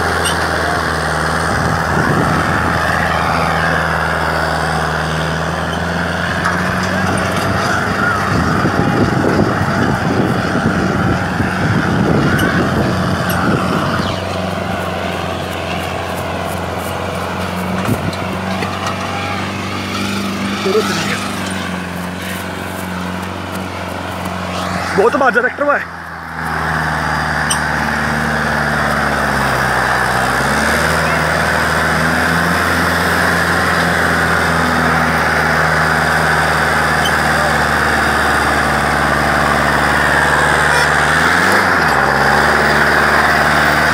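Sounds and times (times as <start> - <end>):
harrow pulling through dry soil: 0.0 - 43.9
tractor diesel engine under load: 0.0 - 43.9.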